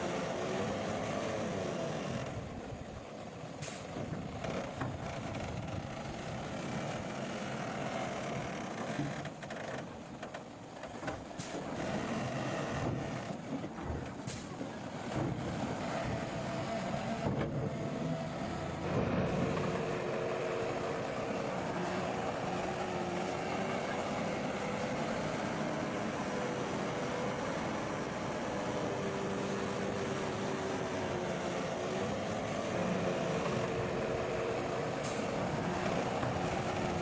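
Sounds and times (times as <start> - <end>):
bulldozer diesel engine: 0.0 - 37.0.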